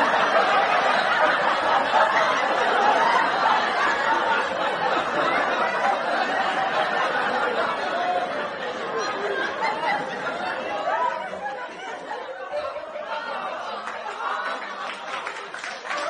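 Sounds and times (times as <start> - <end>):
audience chattering: 0.0 - 16.0
audience laughing: 0.0 - 16.0.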